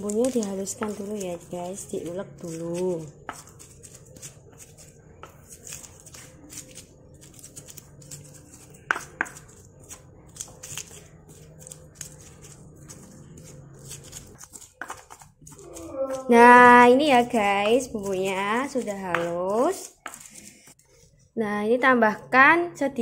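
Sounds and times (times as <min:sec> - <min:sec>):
stone pestle crushing in mortar: 0:00.0 - 0:20.8.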